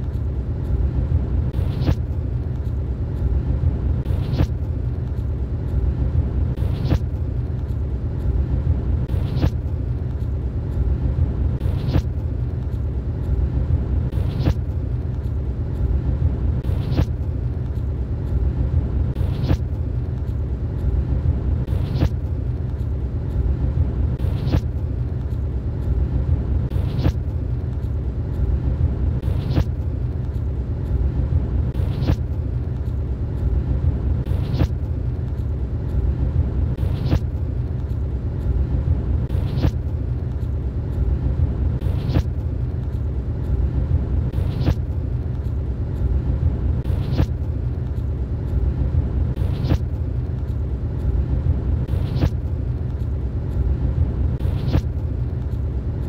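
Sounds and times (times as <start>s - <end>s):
road and engine rumble inside vehicle: 0.0s - 56.0s.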